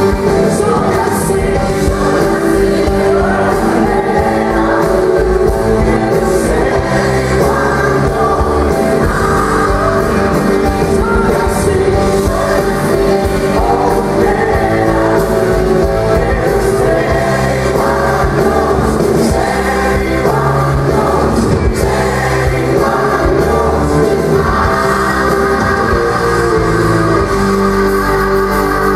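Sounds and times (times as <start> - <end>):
gospel choir singing: 0.0 - 28.9
live pop-rock band: 0.0 - 28.9
woman singing lead: 0.0 - 28.9.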